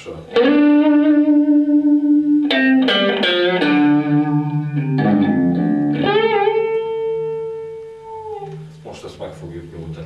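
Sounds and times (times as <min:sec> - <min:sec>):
electric guitar notes: 0:00.0 - 0:08.9.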